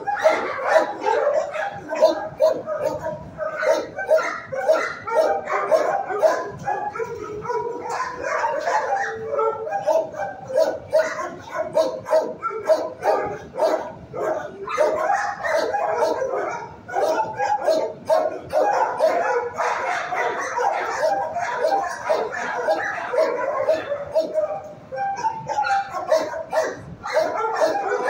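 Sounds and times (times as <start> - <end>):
dog howling: 0.0 - 28.0
dogs barking: 0.0 - 28.0.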